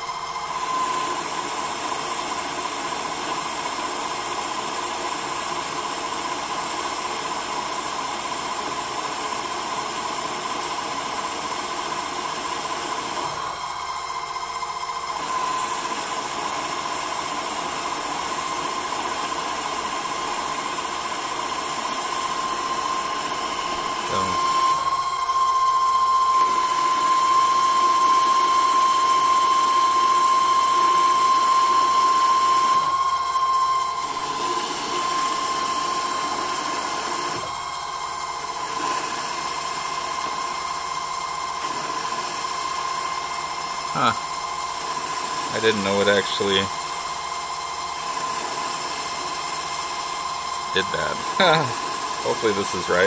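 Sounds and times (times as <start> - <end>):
metal lathe cutting: 0.0 - 53.0.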